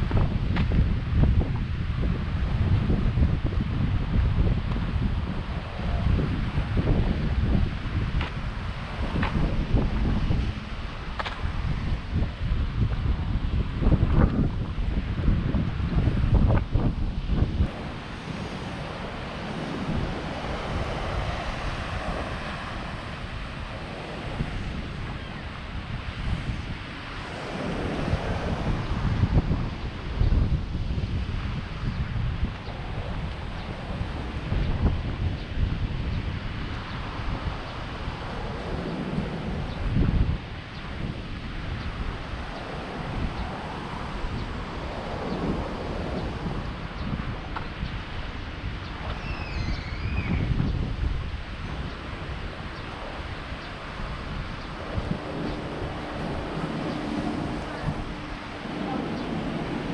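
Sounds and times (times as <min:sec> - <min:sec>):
sea waves breaking: 0:00.0 - 0:59.9
wind rumbling on microphone: 0:00.0 - 0:59.9.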